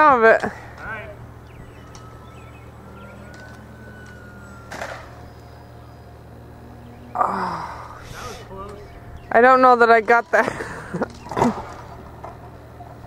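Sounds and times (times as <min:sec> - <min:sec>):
distant model plane motor whine: 0:00.0 - 0:13.0.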